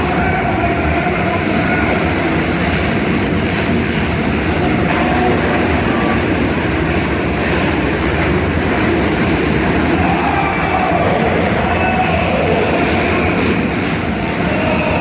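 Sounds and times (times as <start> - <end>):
dirt bike engines racing: 0.0 - 15.0.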